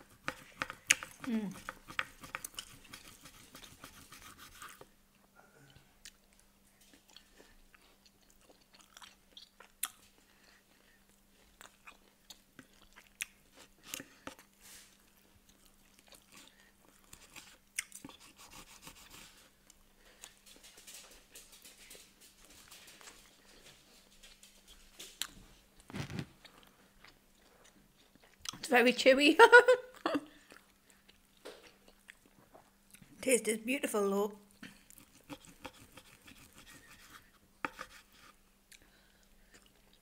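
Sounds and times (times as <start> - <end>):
chewing steak: 0.0 - 4.8, 5.7 - 28.6, 30.3 - 33.1, 34.5 - 40.0.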